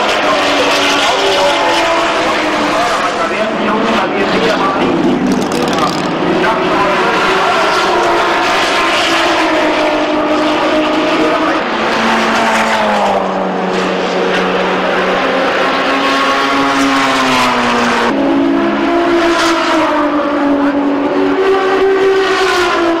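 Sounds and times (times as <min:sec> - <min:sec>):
race car engines running: 0:00.0 - 0:23.0.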